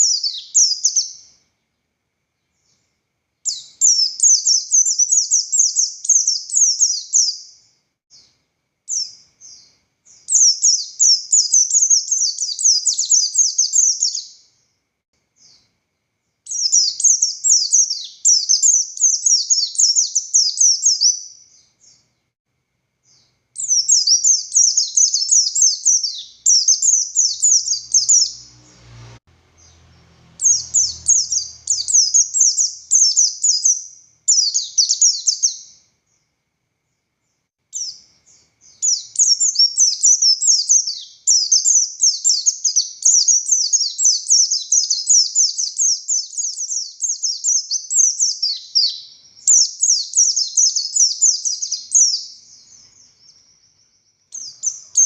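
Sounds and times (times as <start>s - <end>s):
bird twittering song: 0.0s - 14.7s, 15.3s - 22.3s, 23.0s - 55.0s.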